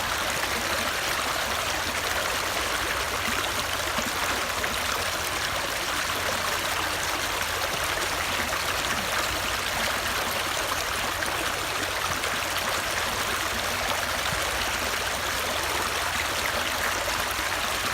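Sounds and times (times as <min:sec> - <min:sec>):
stream water flowing: 0:00.0 - 0:17.9.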